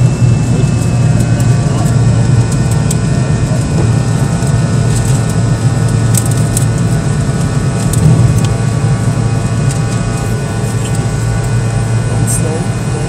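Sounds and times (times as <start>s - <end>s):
jet engine cabin drone: 0.0s - 13.0s
steady whining tones: 0.0s - 13.0s.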